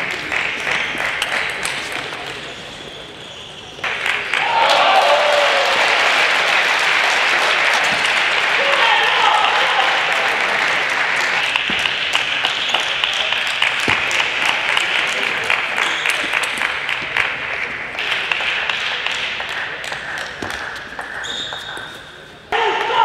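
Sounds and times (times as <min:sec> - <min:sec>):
audience applauding: 0:00.0 - 0:02.5, 0:03.8 - 0:21.2.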